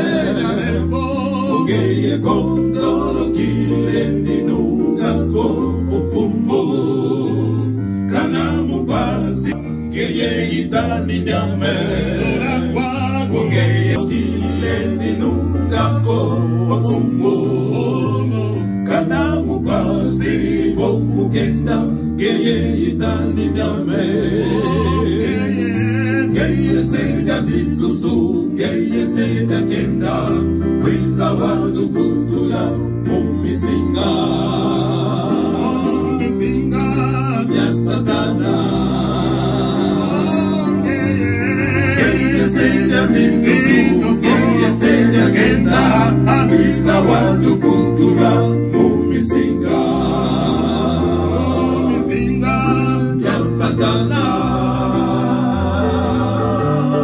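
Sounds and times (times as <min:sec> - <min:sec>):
electronic keyboard: 0:00.0 - 0:57.0
group singing gospel: 0:00.0 - 0:57.0.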